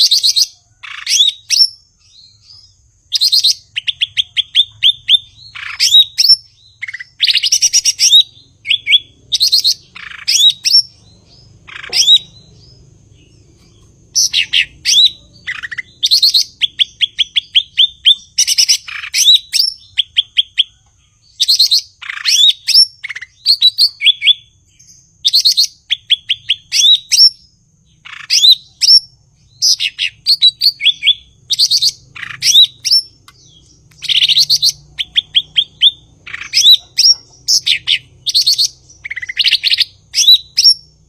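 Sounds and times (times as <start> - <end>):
bird singing chattering whistles: 0.0 - 41.0.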